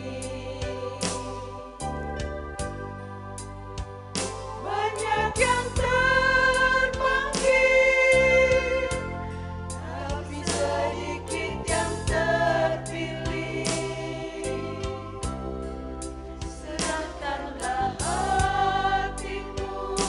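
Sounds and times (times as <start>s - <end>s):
vocal group singing: 0.0s - 2.4s, 4.6s - 15.7s, 16.4s - 20.0s
instrumental accompaniment: 0.0s - 20.0s.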